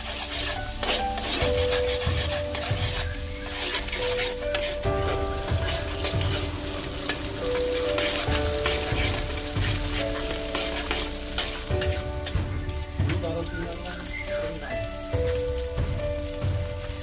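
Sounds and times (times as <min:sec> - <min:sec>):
background music held notes: 0:00.0 - 0:17.0
crackling hiss with clicks: 0:00.0 - 0:17.0.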